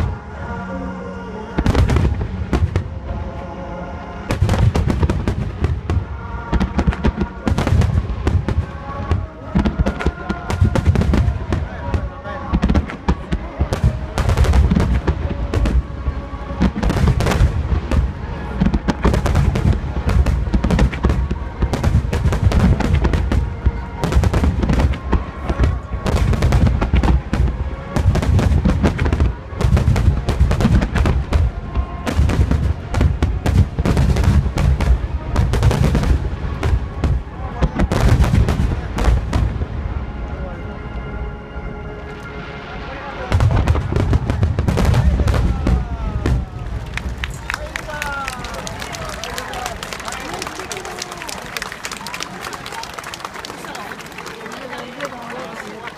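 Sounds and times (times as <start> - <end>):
fireworks booming and cracking: 1.6 - 3.2, 4.3 - 40.0, 43.3 - 53.4.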